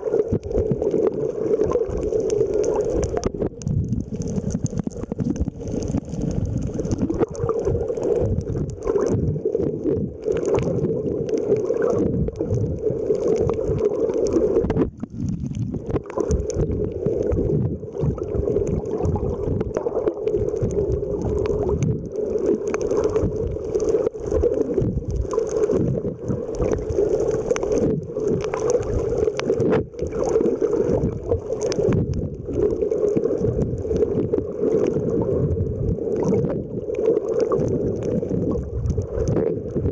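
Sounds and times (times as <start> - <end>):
muffled underwater churning: 0.0 - 39.9.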